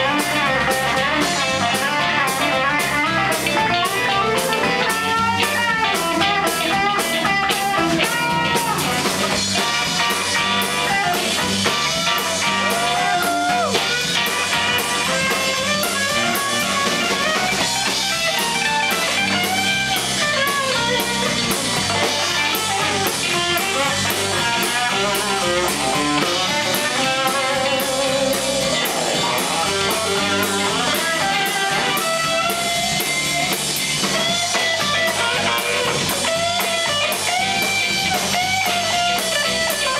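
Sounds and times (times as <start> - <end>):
electric guitar lead lines: 0.0 - 39.9
live blues band playing: 0.0 - 39.9.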